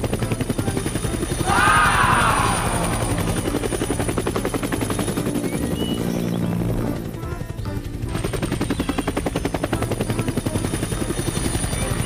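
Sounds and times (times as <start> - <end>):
cartoon helicopter rotor chop: 0.0 - 12.0
engine drone: 0.0 - 12.0.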